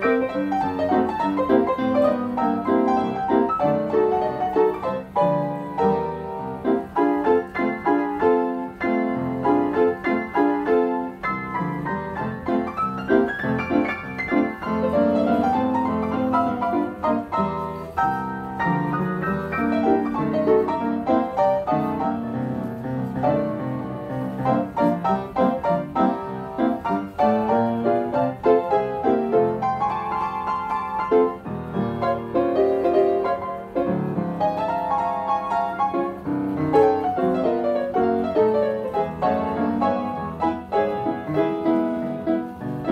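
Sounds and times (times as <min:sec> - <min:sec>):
player piano playing: 0:00.0 - 0:42.9.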